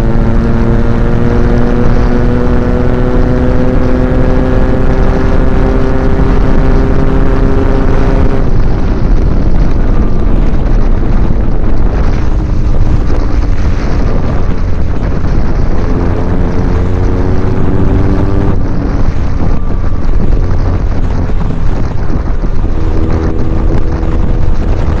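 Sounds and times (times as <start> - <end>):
motorcycle engine hum: 0.0 - 25.0
wind buffeting: 0.0 - 25.0.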